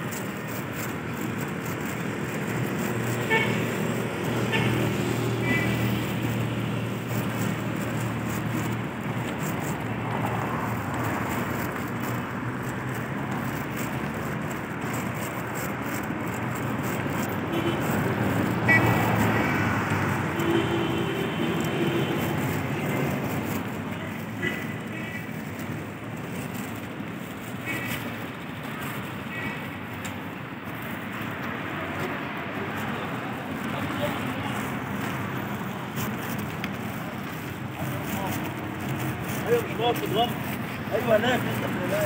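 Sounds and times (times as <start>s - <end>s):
street traffic hum: 0.0s - 42.0s.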